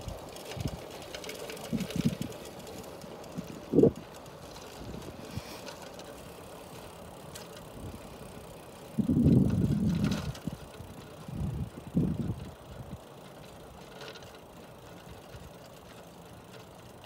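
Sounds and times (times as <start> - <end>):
bicycle tyre and drivetrain noise: 0.0 - 17.0.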